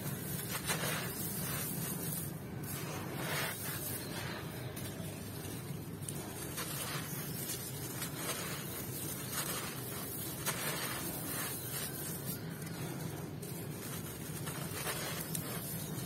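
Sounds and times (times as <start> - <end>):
gritty crunches: 0.0 - 16.0
low steady hum: 0.0 - 16.0
sand pouring hiss: 0.0 - 16.0.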